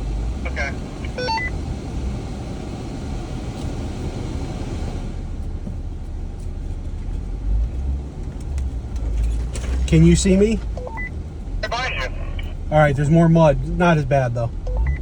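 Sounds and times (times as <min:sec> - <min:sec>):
off-road vehicle engine rumble: 0:00.0 - 0:15.0.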